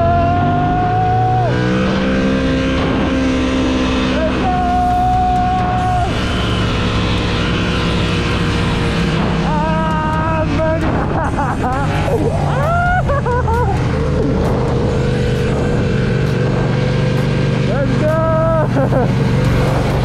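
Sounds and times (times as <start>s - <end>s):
motorcycle engine revving: 0.0s - 20.0s
wind and road noise: 0.0s - 20.0s.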